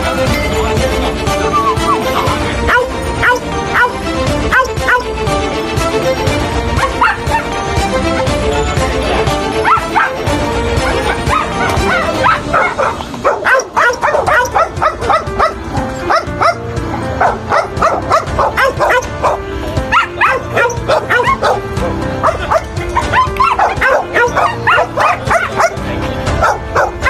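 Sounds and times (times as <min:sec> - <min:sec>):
background music: 0:00.0 - 0:27.0
dogs barking aggressively: 0:01.8 - 0:05.4, 0:06.7 - 0:07.7, 0:09.5 - 0:27.0.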